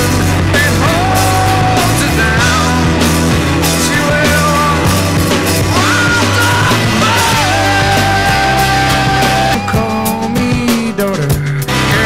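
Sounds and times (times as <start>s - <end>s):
rock music: 0.0s - 12.0s
sliding melody line: 0.0s - 12.0s
steady drum beat: 0.0s - 12.0s.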